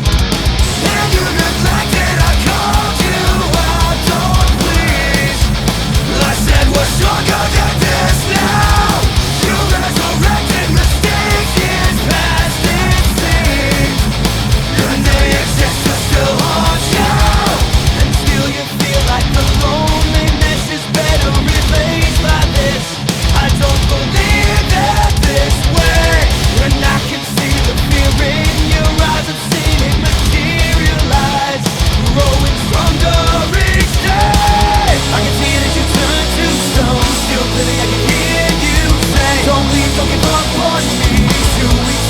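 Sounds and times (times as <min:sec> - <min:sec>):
fast heavy rock music: 0:00.0 - 0:42.0.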